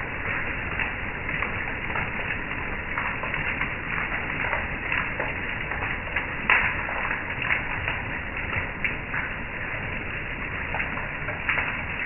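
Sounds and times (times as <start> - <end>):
heavy rain on wooden deck: 0.0 - 12.0
sharp taps of raindrops: 0.0 - 12.0.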